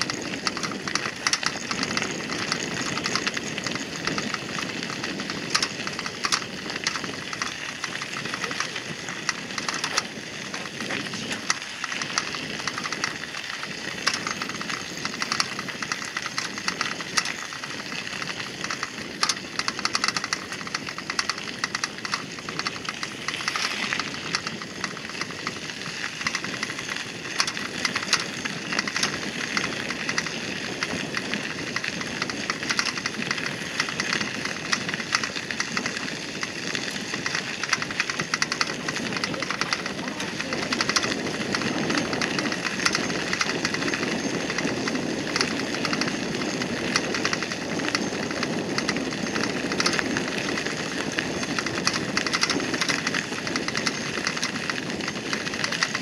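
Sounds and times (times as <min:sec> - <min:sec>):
bicycle tyres crunching on gravel: 0:00.0 - 0:56.0.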